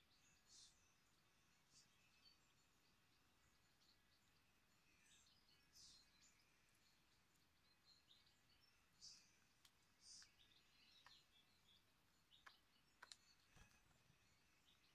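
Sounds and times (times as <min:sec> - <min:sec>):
songbirds chirping: 0:00.0 - 0:14.9.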